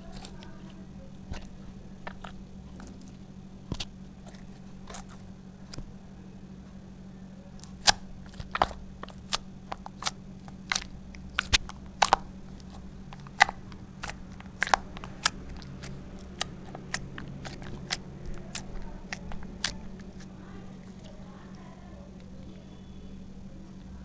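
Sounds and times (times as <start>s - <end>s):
slime clicking and popping: 0.0s - 5.9s, 7.6s - 21.2s.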